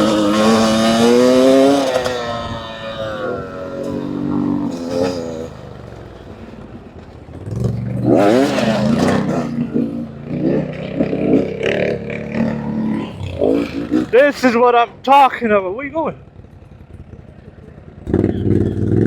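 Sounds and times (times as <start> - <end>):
dirt bike engine revving: 0.0 - 6.7, 7.4 - 17.3, 18.0 - 19.0.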